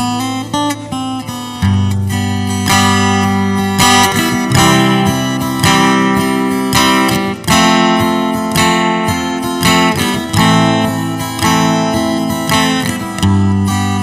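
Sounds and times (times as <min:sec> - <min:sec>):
acoustic guitar strummed chords: 0:00.0 - 0:14.0.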